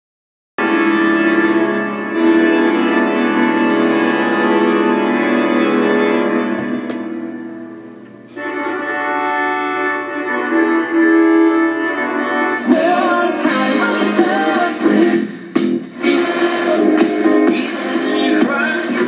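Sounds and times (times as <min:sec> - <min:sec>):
organ chords from radio: 0:00.6 - 0:19.0.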